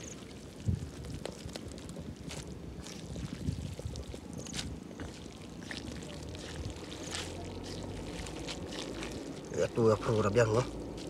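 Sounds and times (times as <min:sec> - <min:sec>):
chopsticks stirring noodles: 0:01.1 - 0:11.0.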